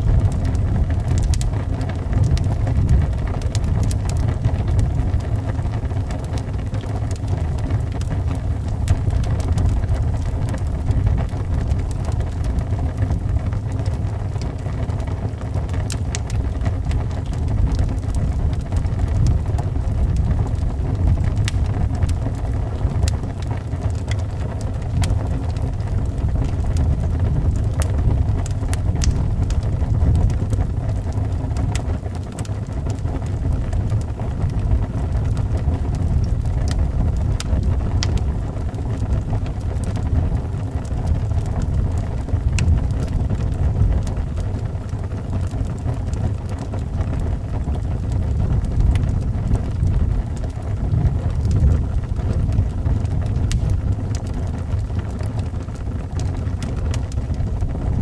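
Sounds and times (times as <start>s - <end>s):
wind rumbling: 0.0s - 58.0s
wood fire crackling: 0.0s - 58.0s.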